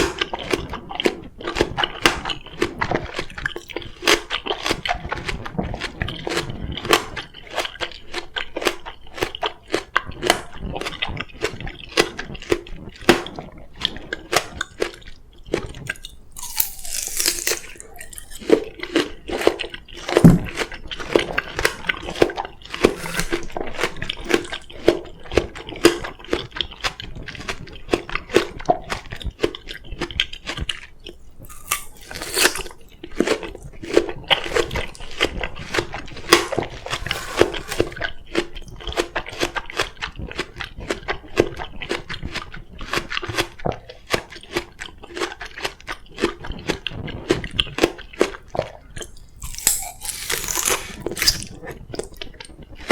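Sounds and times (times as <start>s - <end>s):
chewing crisp melon: 0.0s - 52.9s.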